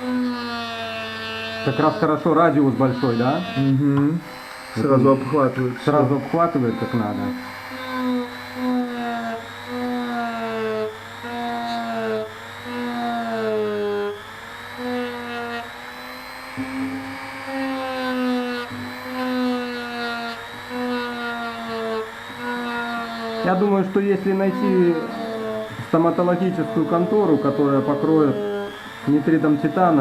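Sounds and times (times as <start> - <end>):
rotary tool whining while polishing: 0.0 - 30.0.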